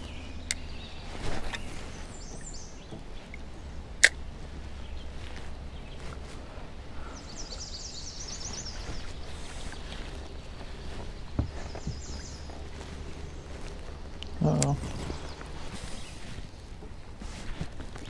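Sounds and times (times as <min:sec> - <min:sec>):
low steady rumble: 0:00.0 - 0:18.0
songbird chirping: 0:00.0 - 0:18.0.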